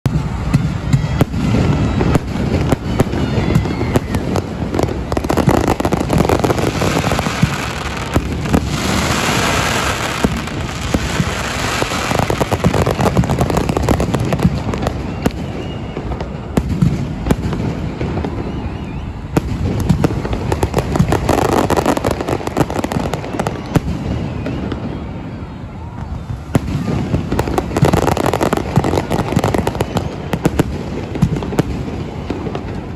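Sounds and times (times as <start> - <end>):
fireworks bangs: 0.0 - 32.9
fireworks crackling: 0.0 - 32.9.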